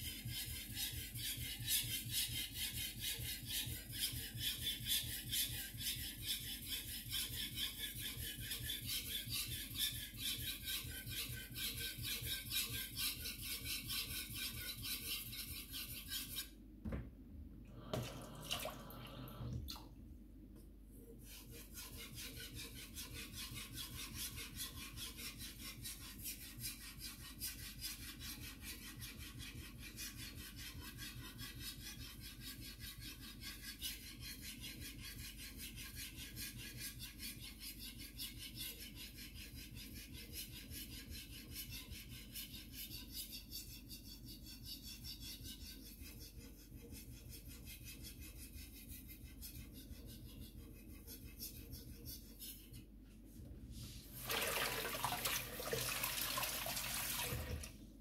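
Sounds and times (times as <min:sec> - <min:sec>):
knife scraping on whetstone: 0:00.0 - 0:16.6, 0:21.2 - 0:52.9.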